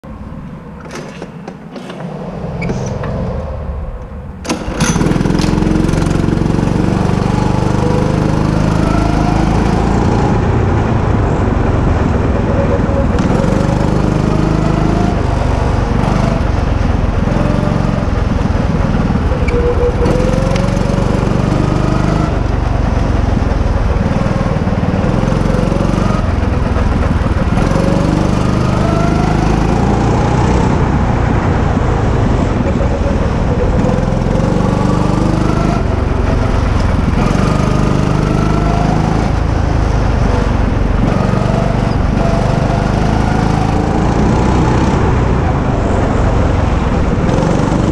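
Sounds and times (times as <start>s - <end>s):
go-kart engine revving: 0.8s - 47.9s.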